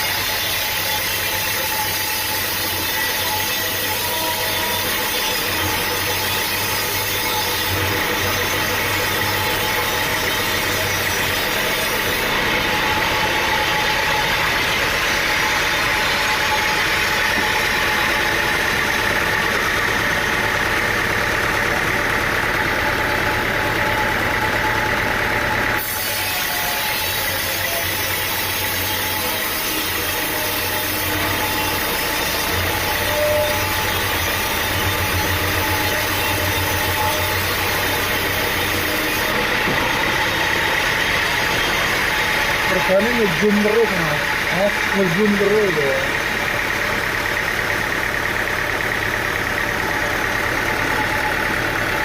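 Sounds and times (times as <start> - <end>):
engine running: 0.0 - 52.0
sawmill machine high whine: 0.0 - 52.0.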